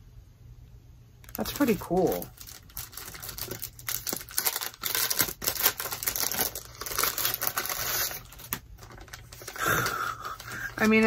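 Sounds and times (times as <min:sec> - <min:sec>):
packaging crinkling: 0:01.2 - 0:11.0.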